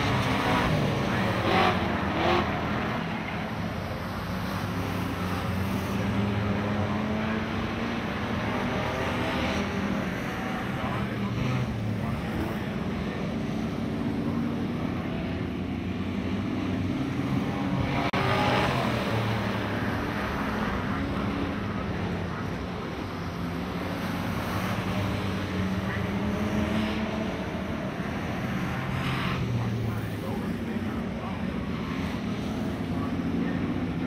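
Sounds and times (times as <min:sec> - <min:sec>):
race car engines running hard: 0:00.0 - 0:34.0.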